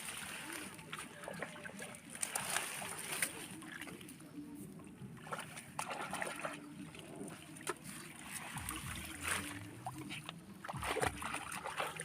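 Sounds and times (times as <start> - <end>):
river water splashing and trickling: 0.0 - 12.0.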